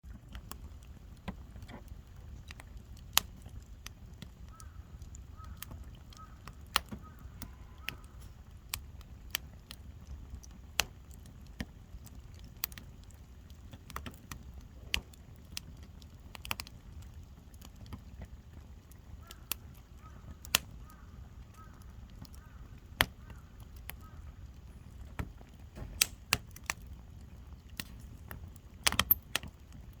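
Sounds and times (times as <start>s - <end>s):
low rumble of fire: 0.0s - 30.0s
campfire crackles and pops: 0.1s - 30.0s.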